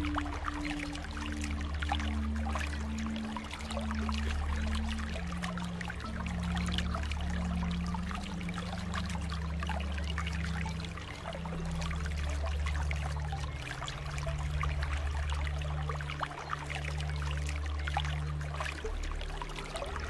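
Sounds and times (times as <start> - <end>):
low steady hum: 0.0 - 20.0
pool water trickling and lapping: 0.0 - 20.0.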